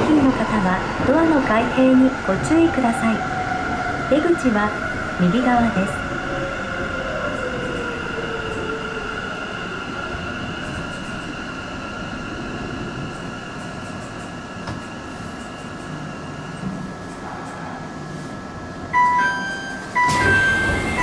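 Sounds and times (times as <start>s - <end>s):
train electric whine: 0.0s - 21.0s
train running noise: 0.0s - 21.0s.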